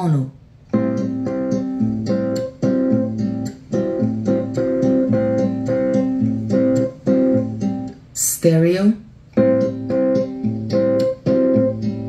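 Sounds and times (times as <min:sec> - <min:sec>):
acoustic guitar strumming: 0:00.7 - 0:08.0, 0:09.3 - 0:12.0.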